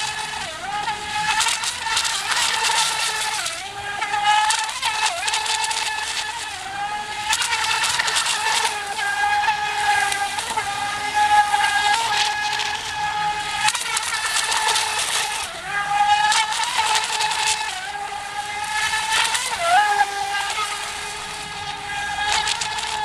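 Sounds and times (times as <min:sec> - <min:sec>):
hull skimming water: 0:00.0 - 0:23.0
model boat motor whining: 0:00.0 - 0:23.0.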